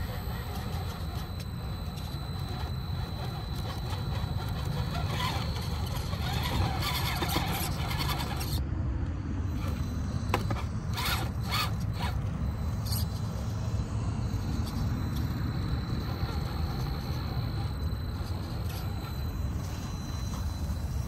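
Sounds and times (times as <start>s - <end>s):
steady low rumble: 0.0s - 21.0s
tires scraping and creaking: 0.0s - 21.0s.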